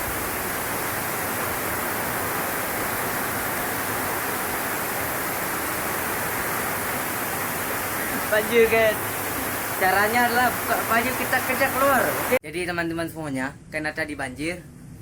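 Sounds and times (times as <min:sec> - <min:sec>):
heavy rain pouring: 0:00.0 - 0:12.4.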